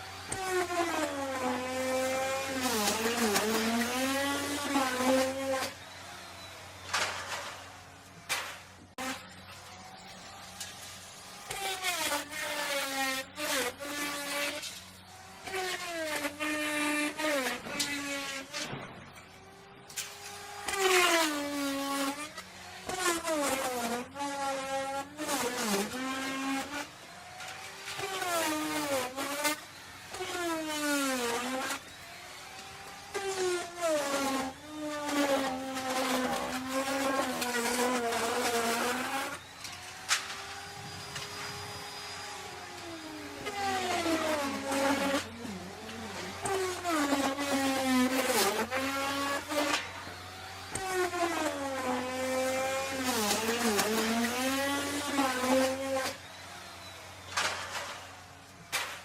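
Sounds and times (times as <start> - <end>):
router bit cutting wood: 0.0 - 59.0
wood router whining: 0.0 - 59.0.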